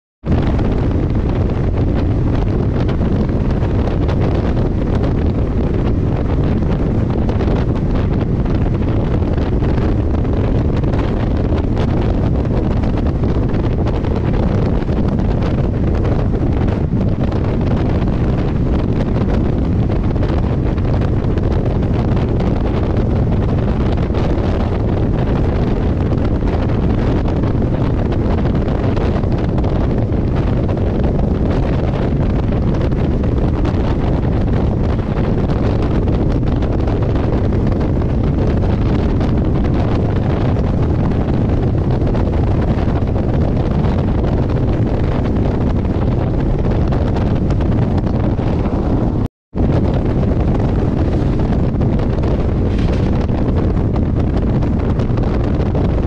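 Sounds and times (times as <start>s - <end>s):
wind buffeting microphone: 0.2s - 56.0s.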